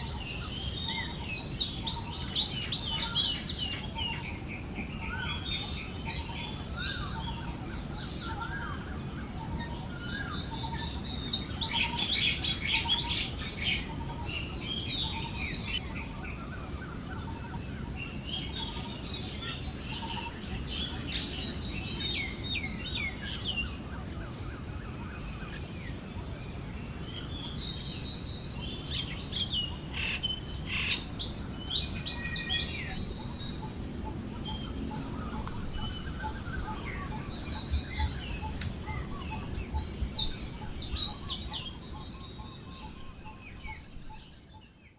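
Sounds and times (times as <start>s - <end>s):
high insect drone: 0.0s - 44.7s
forest birds chirping: 0.0s - 44.9s
soft breeze: 0.0s - 44.9s.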